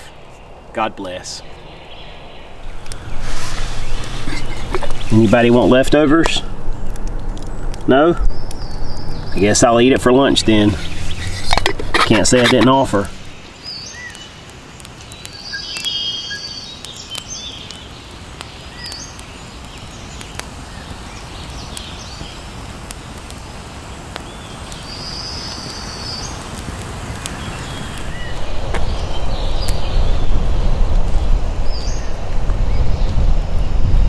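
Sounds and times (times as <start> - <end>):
birds chirping and trilling: 0.0 - 23.2, 23.8 - 33.9
burning log crackling and popping: 0.0 - 34.0
low rush of wind: 0.0 - 34.0.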